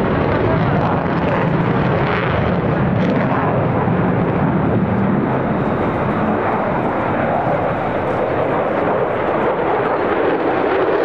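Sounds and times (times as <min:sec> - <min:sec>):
jet engine noise: 0:00.0 - 0:11.0.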